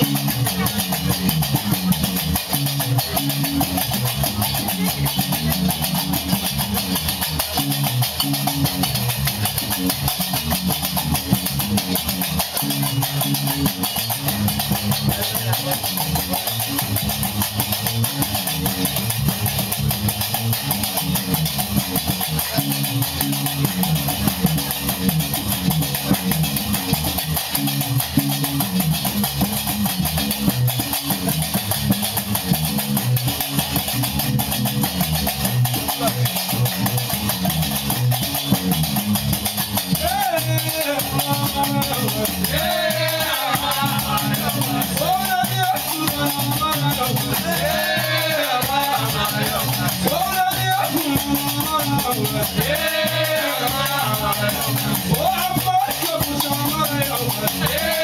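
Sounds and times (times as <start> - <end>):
plucked bass lute riff: 0.0 - 58.0.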